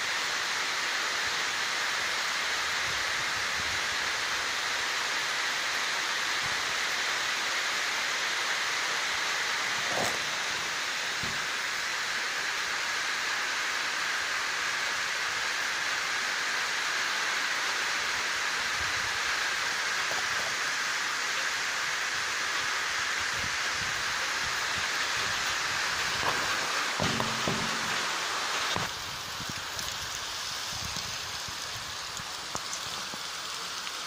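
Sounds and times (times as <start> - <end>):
heavy rain on rooftops: 0.0 - 34.0.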